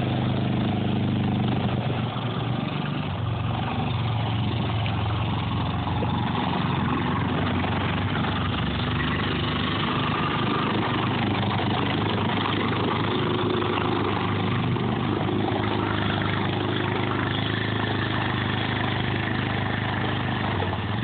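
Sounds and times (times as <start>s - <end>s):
atv engine running at low revs: 0.0s - 21.0s
vehicle wading through water: 0.0s - 21.0s.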